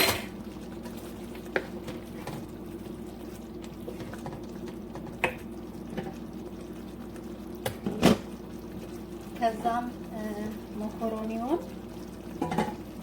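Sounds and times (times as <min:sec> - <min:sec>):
sauce simmering and bubbling: 0:00.0 - 0:13.0.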